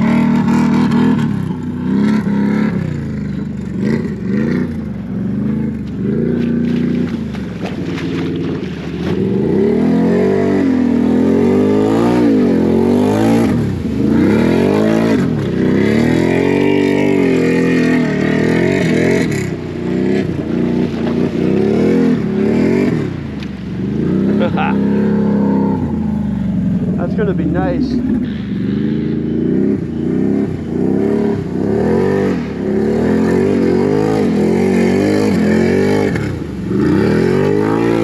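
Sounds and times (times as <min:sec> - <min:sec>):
atv engine revving: 0:00.0 - 0:38.0
water splashing: 0:00.0 - 0:38.0.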